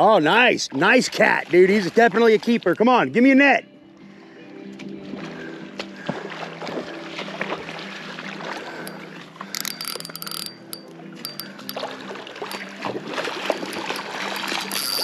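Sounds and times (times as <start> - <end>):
water splashing and sloshing: 0.0 - 3.4, 4.1 - 15.0.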